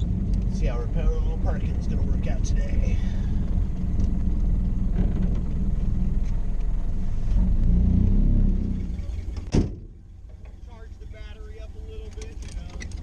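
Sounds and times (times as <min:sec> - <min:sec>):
car engine running slowly: 0:00.0 - 0:13.0.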